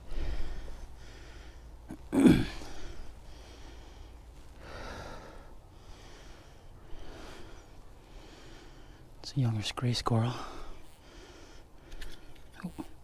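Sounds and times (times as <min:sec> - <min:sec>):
man breathing hard: 0:00.0 - 0:09.2, 0:10.2 - 0:12.4.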